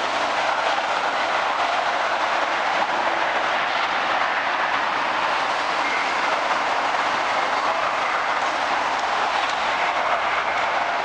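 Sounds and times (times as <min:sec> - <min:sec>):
monorail train rushing: 0:00.0 - 0:11.0.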